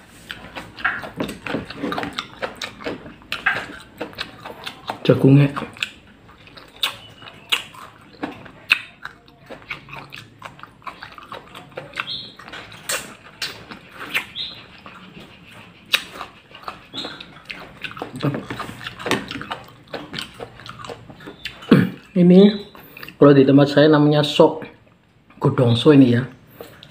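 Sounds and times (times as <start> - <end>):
person chewing corn: 0.0 - 23.3, 26.3 - 26.9.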